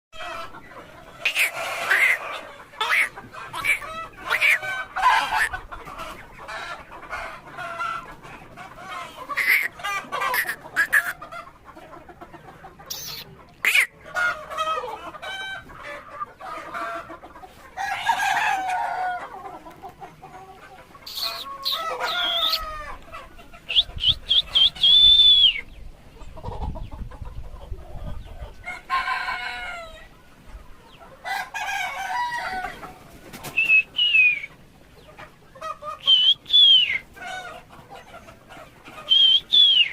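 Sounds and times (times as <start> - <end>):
long high chicken calls: 0.2 - 25.8, 27.7 - 30.3, 30.9 - 39.9
chickens clucking: 0.2 - 39.9.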